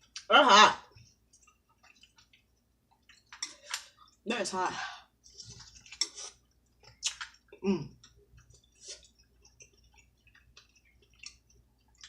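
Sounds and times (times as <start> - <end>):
wet chewing and lip smacks: 1.0 - 4.2, 5.5 - 12.0.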